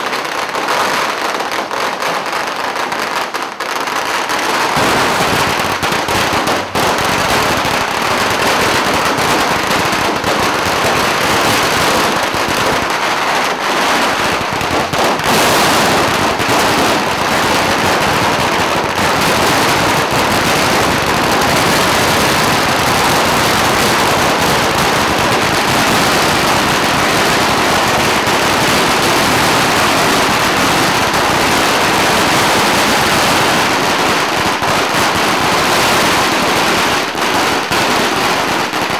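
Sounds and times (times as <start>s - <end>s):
firecrackers rattling: 0.0s - 38.9s.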